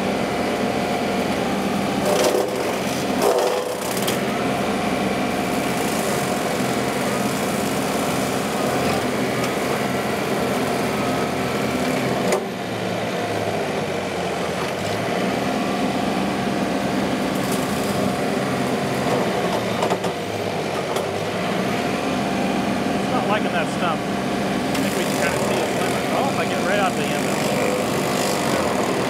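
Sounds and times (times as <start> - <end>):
rotary mower chewing wood: 0.0 - 29.0
tractor diesel engine running: 0.0 - 29.0.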